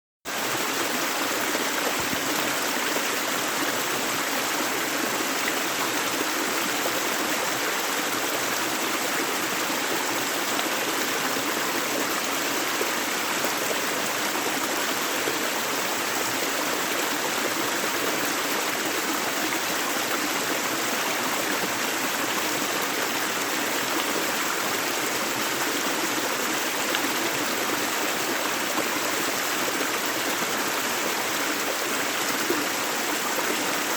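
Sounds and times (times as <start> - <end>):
water flowing over rocks: 0.3 - 33.9.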